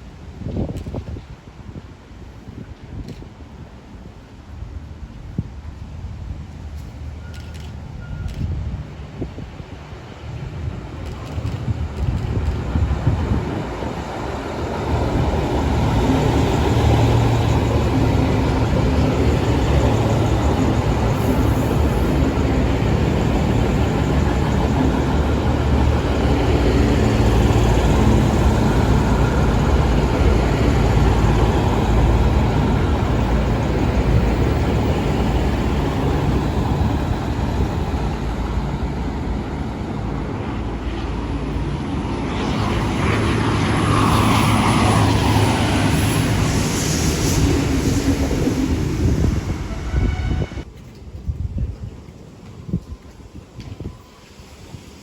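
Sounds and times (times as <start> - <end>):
train wheels rumbling on track: 2.8 - 55.0.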